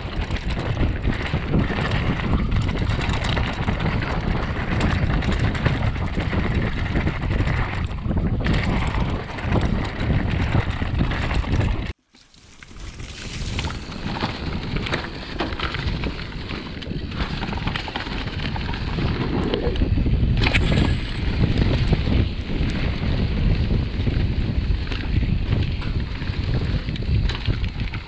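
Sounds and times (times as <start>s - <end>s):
wind buffeting microphone: 0.0s - 12.0s, 12.8s - 28.0s
bike knocks and rattles: 0.0s - 28.0s
bike tyres rolling: 0.0s - 28.0s.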